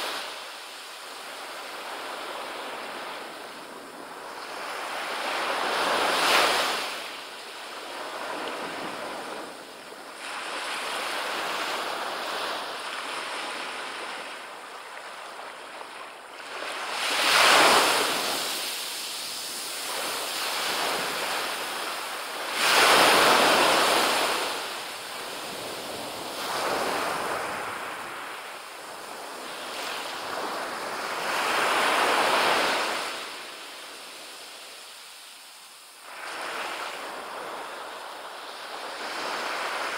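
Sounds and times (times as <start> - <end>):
small waves washing up beach: 0.0 - 39.9.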